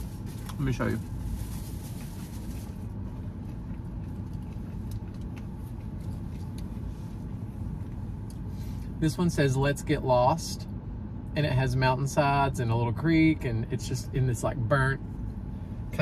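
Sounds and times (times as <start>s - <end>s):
low hum in car cabin: 0.0s - 16.0s.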